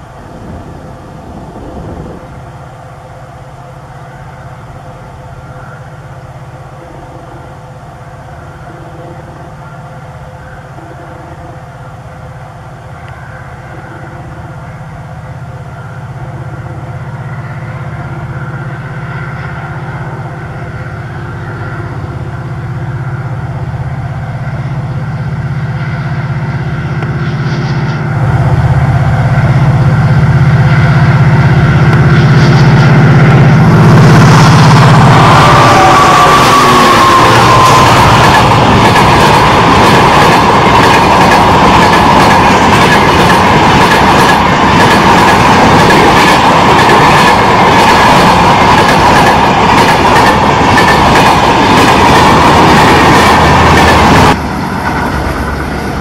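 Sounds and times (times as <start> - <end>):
diesel locomotive engine droning: 0.0 - 56.0.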